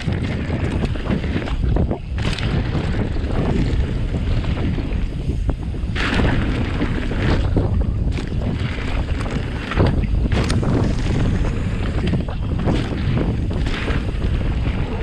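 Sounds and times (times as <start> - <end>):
crackles and knocks from riding: 0.0 - 15.0
wind buffeting microphone: 0.0 - 15.0.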